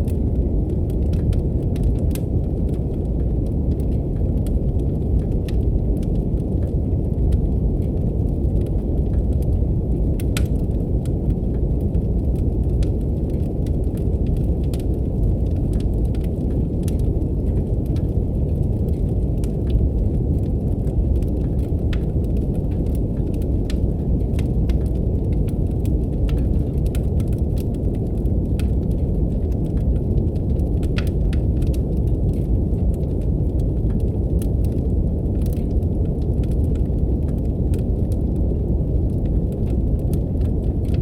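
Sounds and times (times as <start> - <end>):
brown noise rumble: 0.0 - 41.0
wood fire crackling: 0.0 - 41.0.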